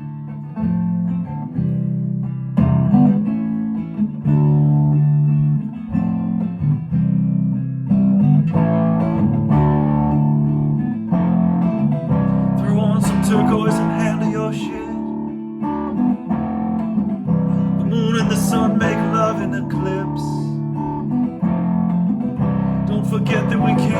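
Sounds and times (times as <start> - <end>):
guitar playing chords: 0.0 - 23.9.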